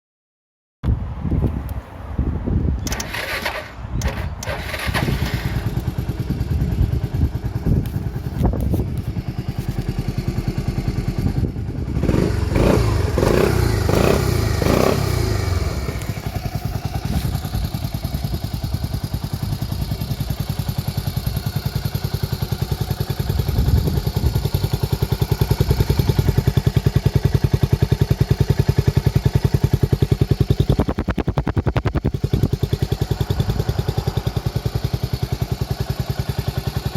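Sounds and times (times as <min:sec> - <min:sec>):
scooter engine idling and revving: 0:02.2 - 0:36.9.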